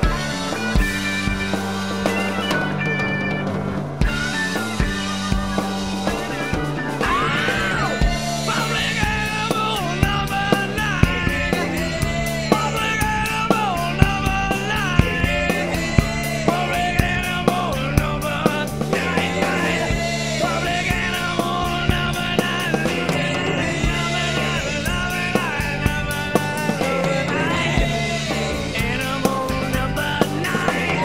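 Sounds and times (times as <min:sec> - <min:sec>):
acoustic drum kit: 0:00.0 - 0:31.0
rock backing track: 0:00.0 - 0:31.0.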